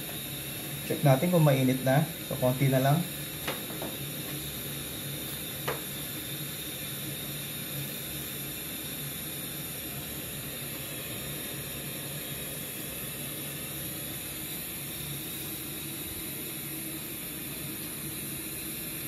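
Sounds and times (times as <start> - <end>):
gas burner flame hissing: 0.0 - 19.0.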